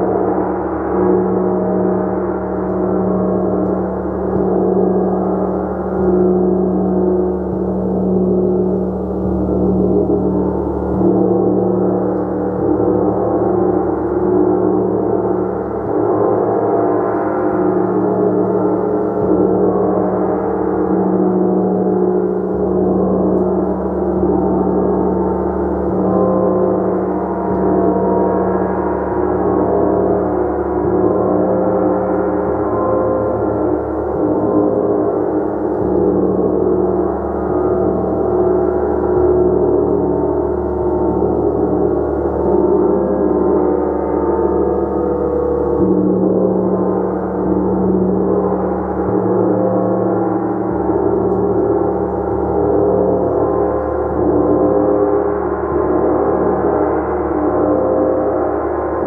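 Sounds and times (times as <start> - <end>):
gong with low hum: 0.0 - 59.0.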